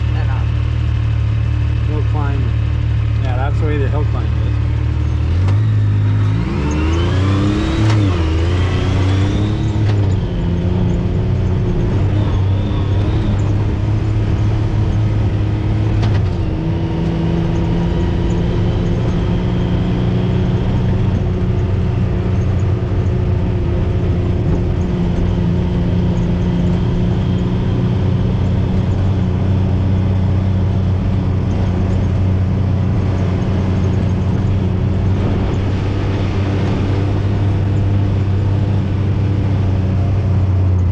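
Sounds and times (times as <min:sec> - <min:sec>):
utility vehicle engine revving: 0:00.0 - 0:40.9.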